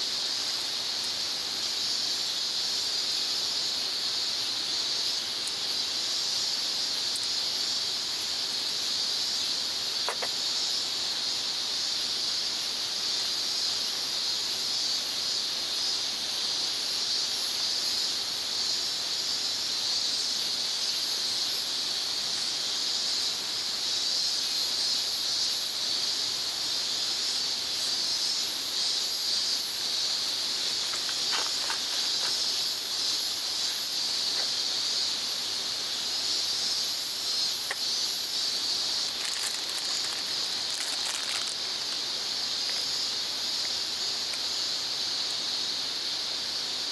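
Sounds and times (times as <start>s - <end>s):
insects singing: 1.7s - 46.8s.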